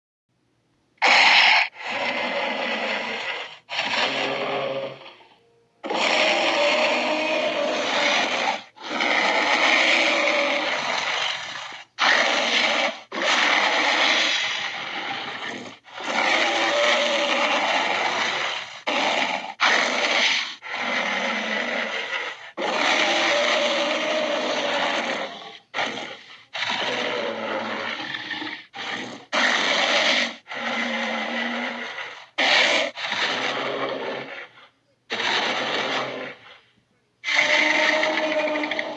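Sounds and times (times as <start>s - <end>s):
dinosaur roars and growls: 1.0s - 36.6s, 37.2s - 38.9s.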